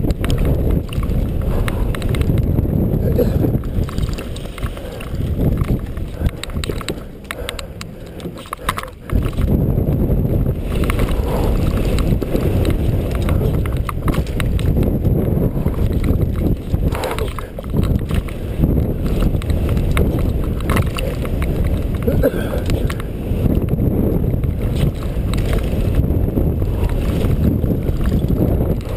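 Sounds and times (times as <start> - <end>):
bike chain and frame rattling: 0.0 - 28.9
tyres on loose dirt: 0.0 - 28.9
wind rushing over microphone: 0.0 - 28.9.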